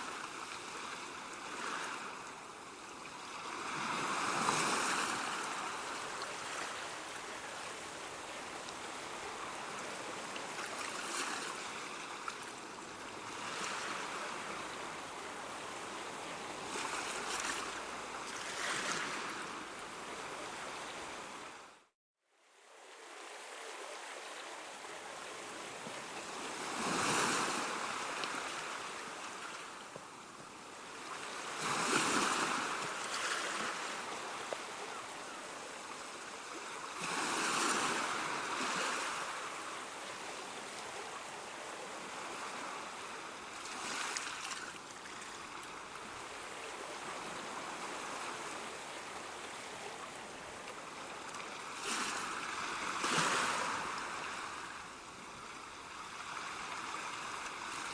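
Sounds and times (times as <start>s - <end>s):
waves breaking: 0.0s - 21.9s, 22.8s - 57.9s.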